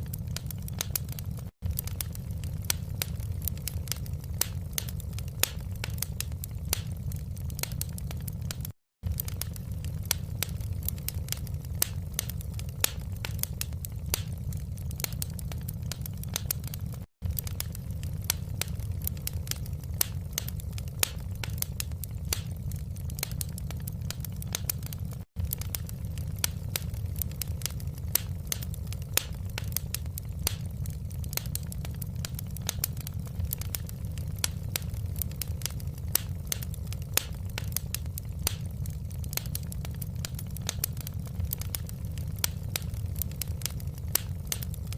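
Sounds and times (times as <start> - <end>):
low rumble of flames: 0.0 - 44.9
wood fire popping and snapping: 0.0 - 44.9.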